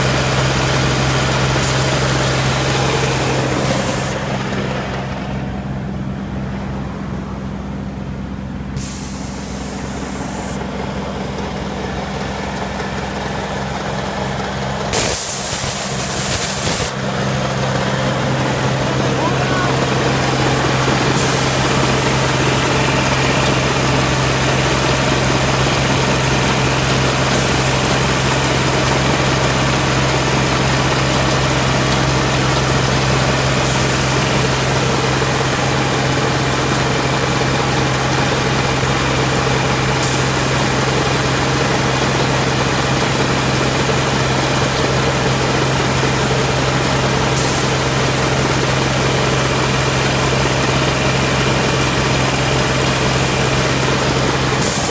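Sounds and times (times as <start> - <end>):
machine engine humming: 0.0 - 54.9.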